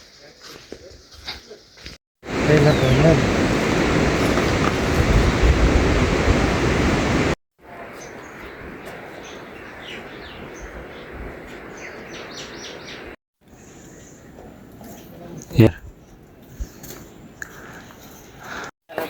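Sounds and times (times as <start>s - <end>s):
birds chirping: 0.0s - 5.5s, 6.1s - 18.7s.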